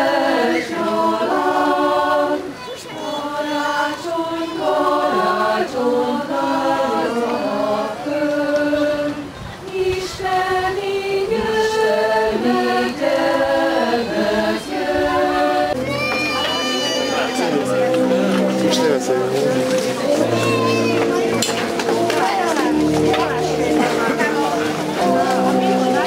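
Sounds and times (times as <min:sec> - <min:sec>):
group of voices singing: 0:00.0 - 0:26.0.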